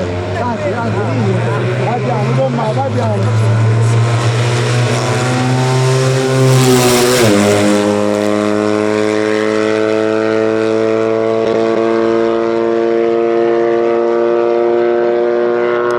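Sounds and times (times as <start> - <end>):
car engine passing close: 0.0 - 15.9.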